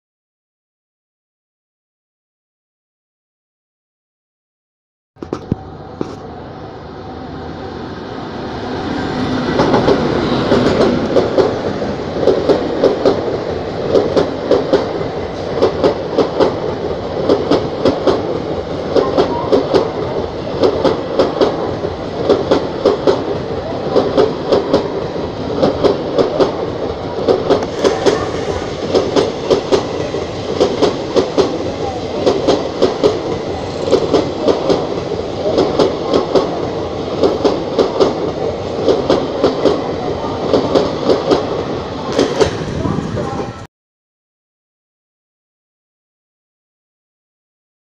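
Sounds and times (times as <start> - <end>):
train passing at speed: 5.3 - 43.7.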